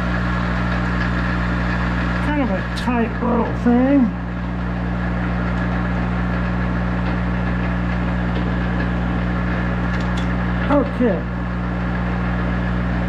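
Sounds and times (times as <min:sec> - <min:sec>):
lathe running with gear growl: 0:00.0 - 0:13.0.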